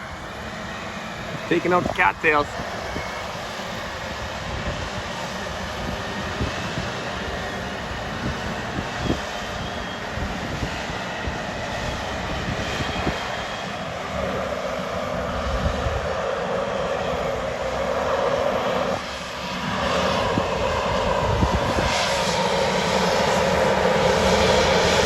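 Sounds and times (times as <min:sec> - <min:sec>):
wind buffeting microphone: 0:00.0 - 0:17.6, 0:20.1 - 0:25.0.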